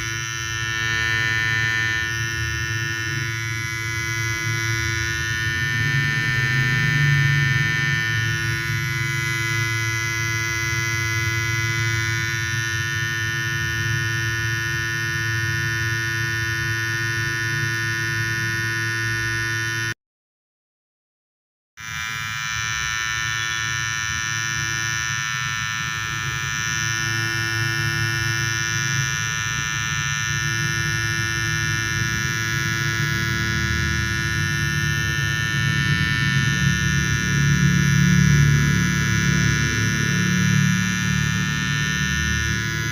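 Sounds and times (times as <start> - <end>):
electric hair trimmer buzzing: 0.0 - 20.0, 21.8 - 42.9.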